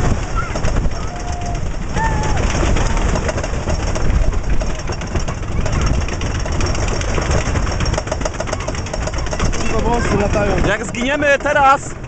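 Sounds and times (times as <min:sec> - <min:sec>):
heavy low rumble: 0:00.0 - 0:12.0
roller coaster rattling on track: 0:00.0 - 0:12.0.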